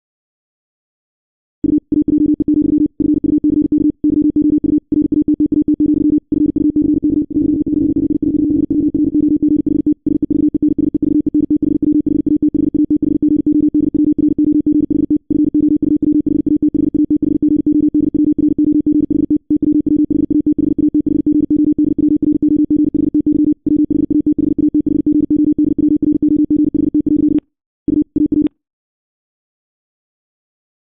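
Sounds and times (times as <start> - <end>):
morse code beeps: 1.6 - 28.5.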